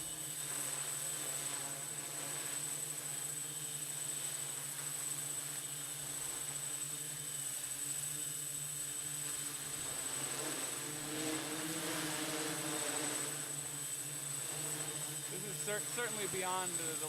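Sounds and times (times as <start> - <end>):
drone motors humming: 2.4 - 17.0.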